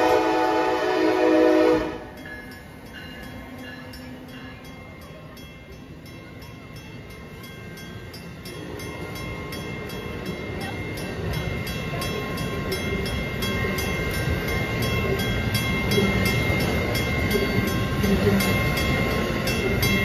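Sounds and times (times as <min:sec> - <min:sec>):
crossing bell ringing: 0:00.0 - 0:20.0.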